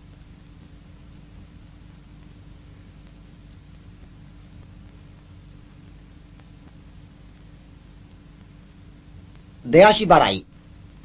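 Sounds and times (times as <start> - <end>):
faint constant tone: 0.0 - 11.0
film soundtrack hiss: 0.0 - 11.0
low hum: 0.0 - 11.0.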